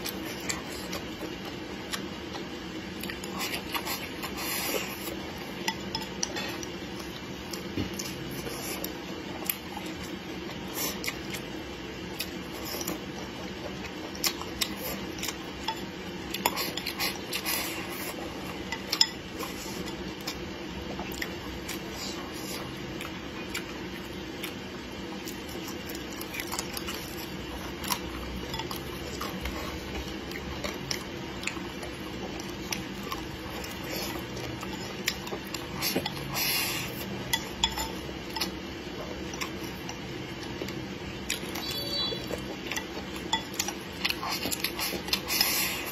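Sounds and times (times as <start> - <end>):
chewing and eating noises: 0.0 - 45.9
steady low hum: 0.0 - 45.9.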